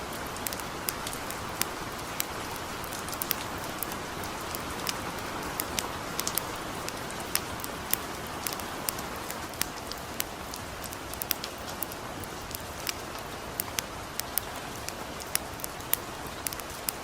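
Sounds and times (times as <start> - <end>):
campfire crackling: 0.0 - 17.0
light rain falling: 0.0 - 17.0.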